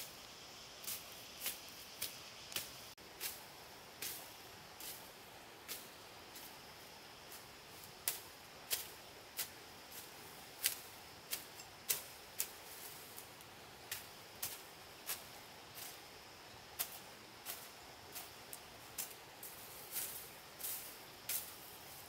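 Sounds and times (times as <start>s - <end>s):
faint high hiss: 0.0s - 22.0s.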